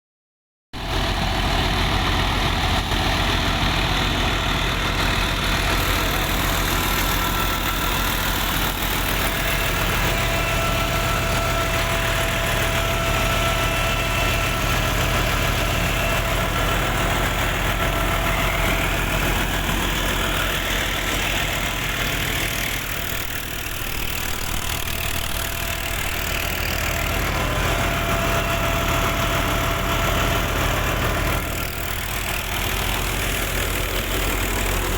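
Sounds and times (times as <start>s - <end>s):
tractor engine running: 0.8s - 34.9s
thin steady whining tones: 4.5s - 34.8s.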